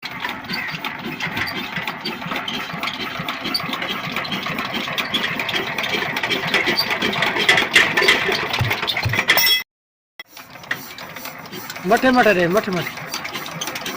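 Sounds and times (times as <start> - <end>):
diesel engine knocking: 0.0 - 9.3, 10.4 - 13.9.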